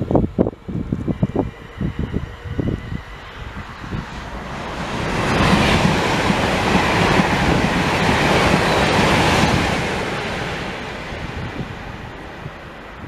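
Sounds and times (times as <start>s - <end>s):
train passing: 0.0s - 13.0s.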